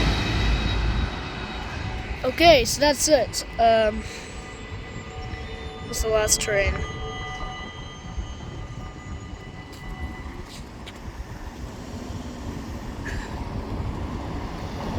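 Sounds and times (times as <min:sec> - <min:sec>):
high steady whine: 0:00.0 - 0:13.0
train rumbling past: 0:00.0 - 0:14.9.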